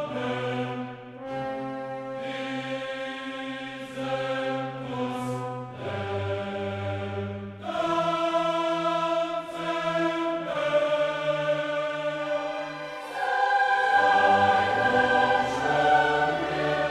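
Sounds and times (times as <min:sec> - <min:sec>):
choir singing slow chords: 0:00.0 - 0:16.9.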